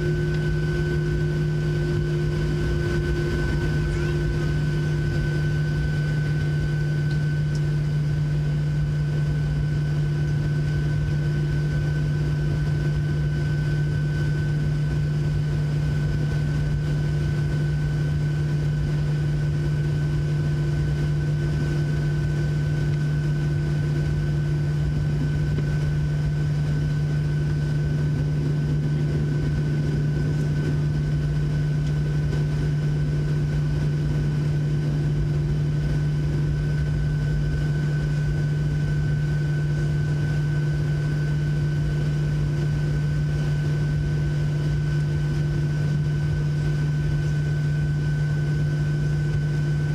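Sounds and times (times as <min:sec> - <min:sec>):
aircraft cabin engine hum: 0:00.0 - 0:49.9
high engine whine: 0:00.0 - 0:49.9.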